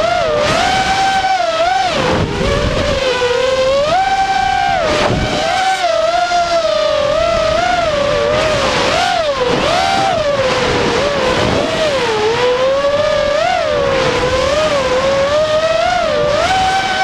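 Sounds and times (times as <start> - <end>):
drone motors whining: 0.0 - 17.0
wind noise: 0.0 - 17.0.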